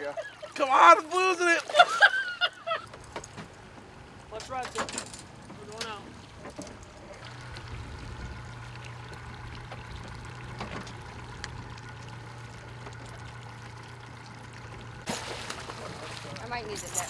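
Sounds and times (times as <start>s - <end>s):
boat motor humming: 0.0s - 17.0s
water splashing along hull: 0.0s - 17.0s.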